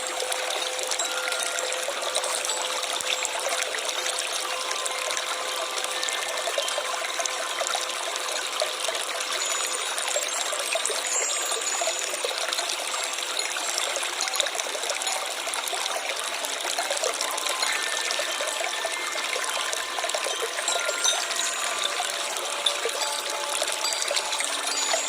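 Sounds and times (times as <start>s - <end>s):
stream water babbling: 0.0s - 25.0s.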